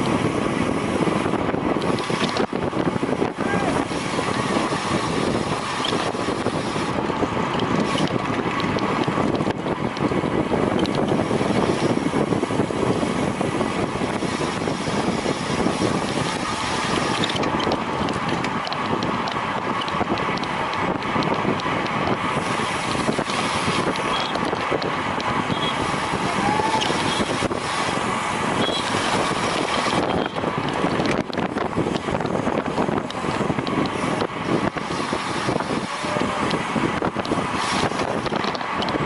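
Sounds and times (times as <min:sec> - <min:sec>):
bicycle running noise: 0:00.0 - 0:39.0
wind rushing over microphone: 0:00.0 - 0:39.0.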